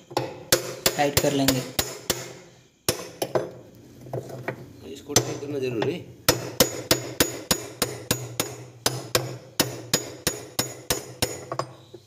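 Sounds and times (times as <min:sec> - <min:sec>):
hammer striking spanner: 0:00.1 - 0:03.6, 0:05.2 - 0:12.0.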